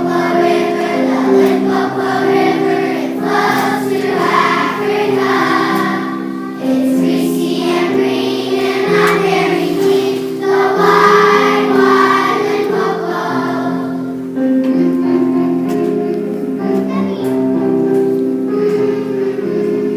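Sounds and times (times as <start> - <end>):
children's choir singing: 0.0 - 19.9
musical accompaniment: 0.0 - 19.9.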